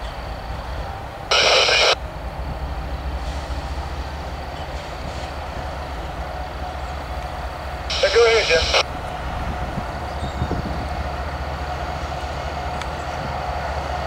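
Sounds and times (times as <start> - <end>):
locomotive engine rumbling: 0.0 - 14.0.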